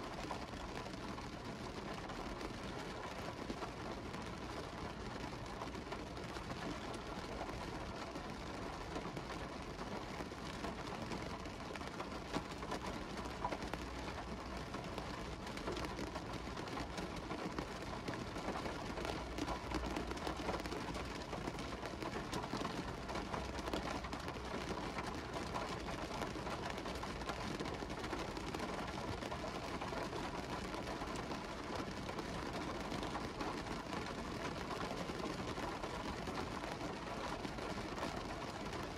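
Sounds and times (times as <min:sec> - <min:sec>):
rain hissing on car window: 0:00.0 - 0:38.9
raindrops ticking on glass: 0:00.1 - 0:38.9.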